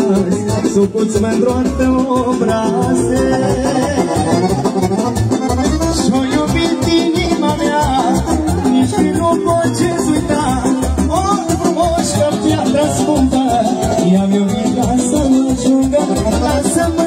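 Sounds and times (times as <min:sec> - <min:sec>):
folk band playing dance music: 0:00.0 - 0:17.0.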